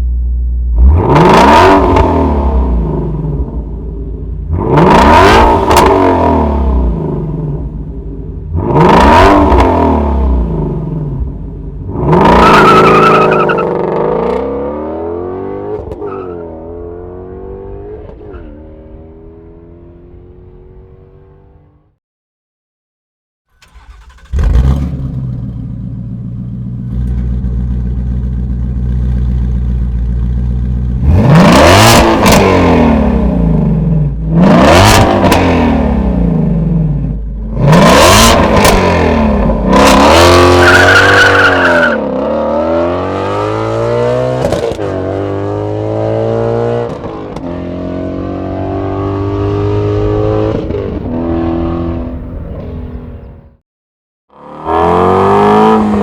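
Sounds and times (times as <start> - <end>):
car engine revving: 0.8 - 21.8, 23.6 - 53.4.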